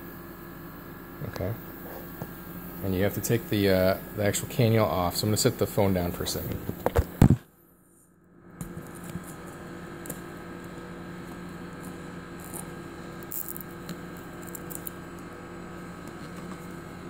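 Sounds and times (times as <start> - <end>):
equipment hum: 0.0 - 17.0.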